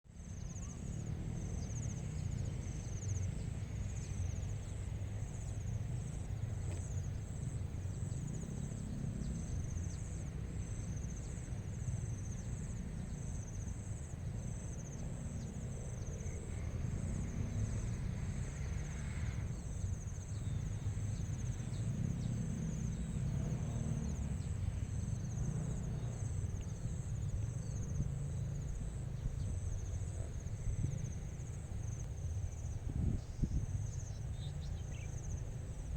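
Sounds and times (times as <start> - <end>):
crickets chirping: 0.1 - 35.9.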